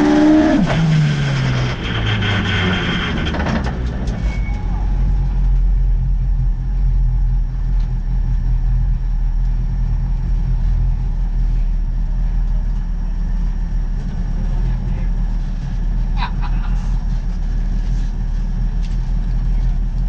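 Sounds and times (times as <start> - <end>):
engine idling inside car: 3.6 - 20.0.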